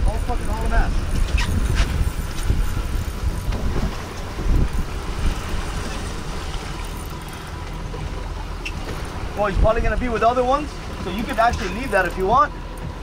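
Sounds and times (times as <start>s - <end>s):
boat engine rumble: 0.0s - 13.0s
water rushing past hull: 0.0s - 13.0s
wind buffeting microphone: 0.0s - 13.0s.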